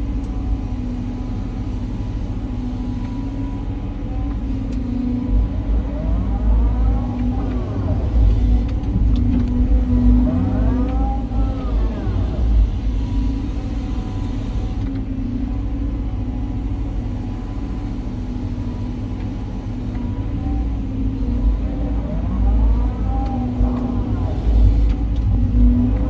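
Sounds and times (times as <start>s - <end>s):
excavator diesel engine under load: 0.0s - 26.0s
hydraulic whine: 0.0s - 26.0s.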